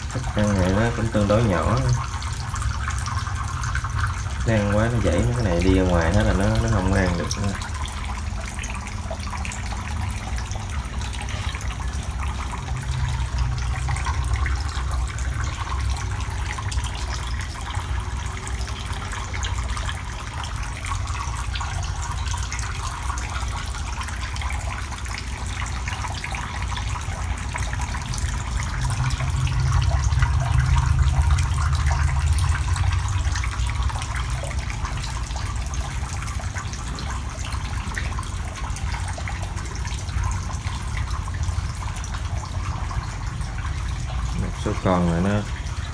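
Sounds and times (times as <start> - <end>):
water running and splashing: 0.0 - 45.9.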